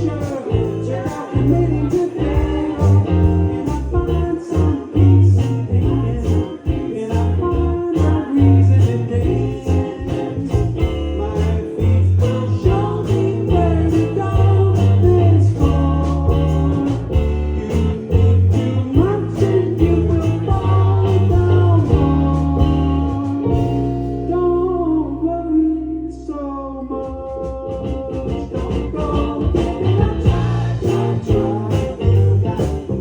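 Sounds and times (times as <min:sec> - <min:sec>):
steady drum beat: 0:00.0 - 0:06.1, 0:06.7 - 0:23.9, 0:27.7 - 0:33.0
bass guitar: 0:00.0 - 0:33.0
electric guitar: 0:00.0 - 0:33.0
person singing: 0:00.0 - 0:33.0.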